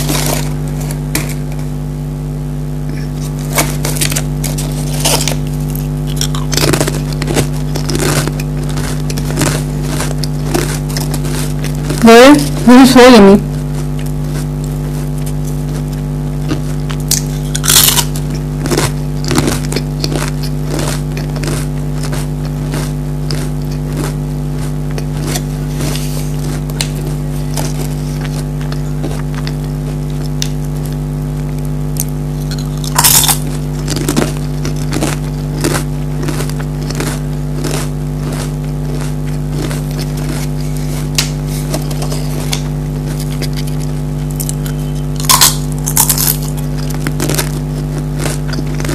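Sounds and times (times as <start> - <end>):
crisps crunching: 0.0 - 1.9, 2.8 - 48.9
low electrical hum: 0.0 - 48.9.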